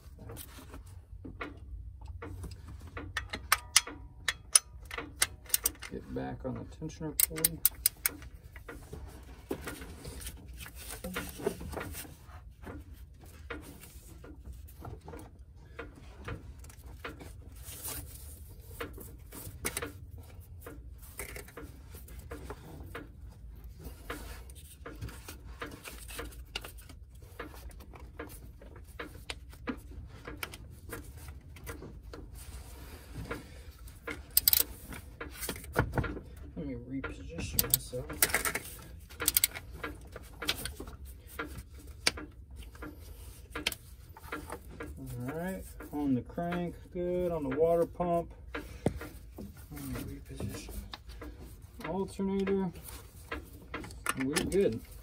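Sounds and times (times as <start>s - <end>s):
low steady hum: 0.0s - 55.0s
rubber belt rubbing and clicking: 7.2s - 36.3s, 37.4s - 55.0s.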